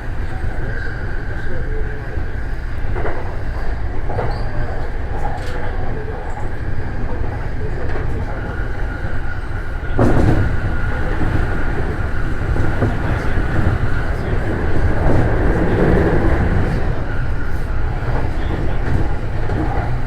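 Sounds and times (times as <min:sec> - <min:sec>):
train clatter: 0:00.0 - 0:20.0
train wheels rumbling on rail: 0:00.0 - 0:20.0.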